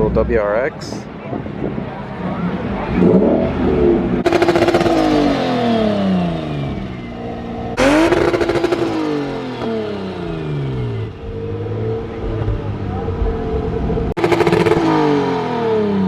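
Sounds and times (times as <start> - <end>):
exhaust crackling: 1.5 - 16.0
car engine revving: 2.0 - 16.0.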